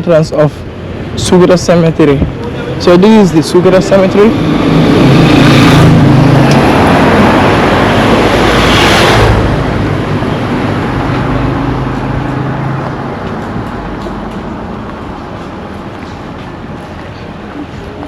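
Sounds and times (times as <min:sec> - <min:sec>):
vehicle passing by: 0:02.3 - 0:18.0.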